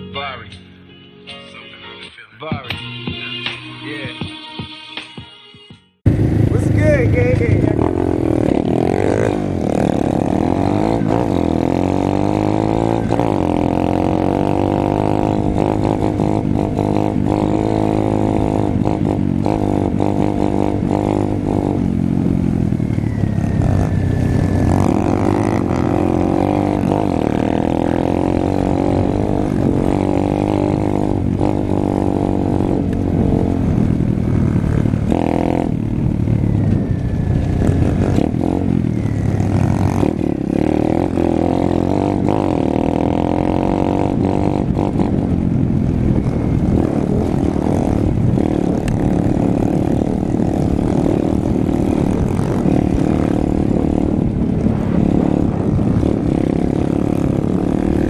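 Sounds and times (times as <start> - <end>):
motorbike engine revving: 6.1 - 58.0.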